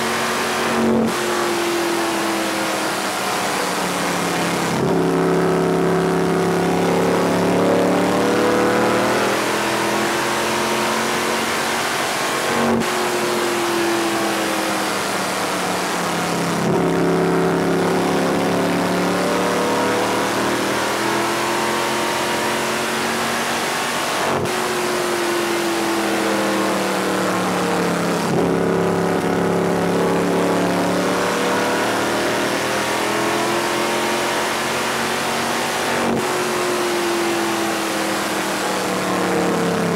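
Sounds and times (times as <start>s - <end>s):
race car engine at speed: 0.0s - 39.9s.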